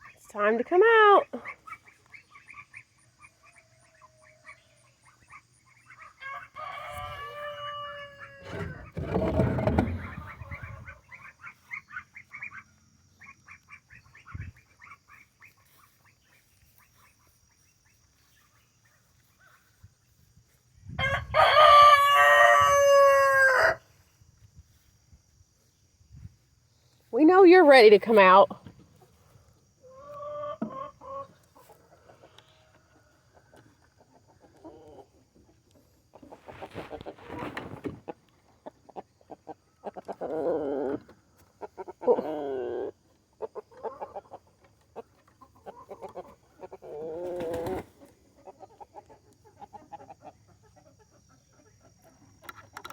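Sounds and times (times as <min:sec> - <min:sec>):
chickens calling: 0:00.0 - 0:24.1, 0:26.9 - 0:52.8.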